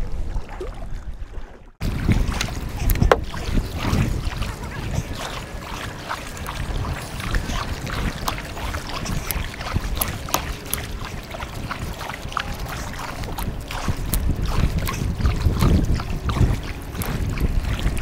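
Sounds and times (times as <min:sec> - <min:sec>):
paddle strokes splashing in water: 0:00.0 - 0:18.0
wind buffeting microphone: 0:00.0 - 0:18.0.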